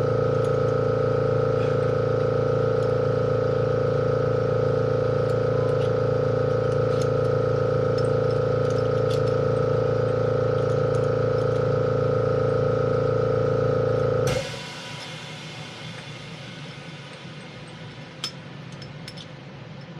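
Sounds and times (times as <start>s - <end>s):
steady machine hum: 0.0s - 19.9s.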